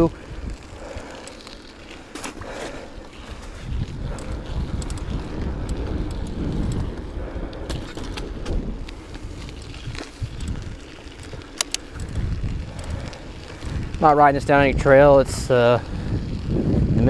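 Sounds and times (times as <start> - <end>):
bike clicks and rattles: 0.0 - 17.0
bike tyres rolling: 0.0 - 17.0
wind buffeting microphone: 0.0 - 17.0.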